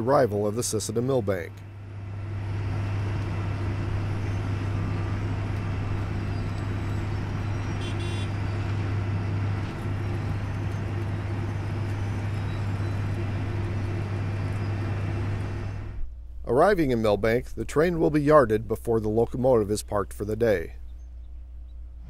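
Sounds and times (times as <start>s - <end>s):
diesel engine deep hum: 0.0s - 22.0s.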